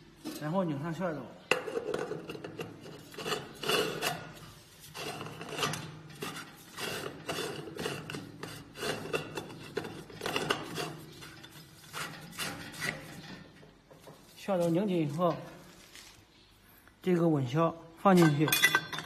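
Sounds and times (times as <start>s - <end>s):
metal scraping and clinking: 0.1s - 16.0s, 18.1s - 19.0s.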